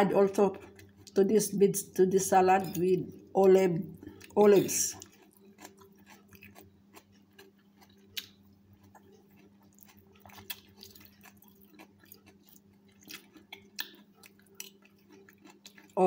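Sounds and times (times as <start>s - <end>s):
faint low hum: 0.0s - 16.0s
crunching salad: 2.6s - 16.0s.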